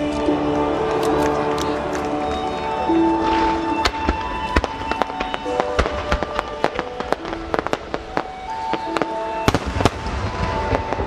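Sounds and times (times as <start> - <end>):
fireworks bangs and crackles: 0.0 - 11.0
music with long held notes: 0.0 - 11.0.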